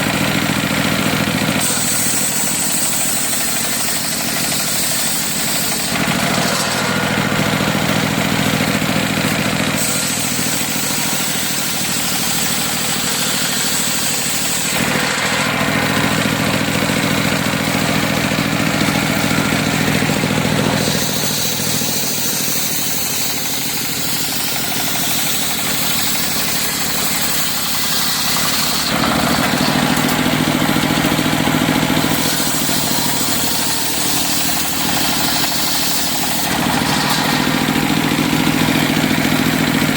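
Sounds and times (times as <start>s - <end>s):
circular saw cutting wood: 0.0s - 39.9s
engine hum: 0.0s - 39.9s.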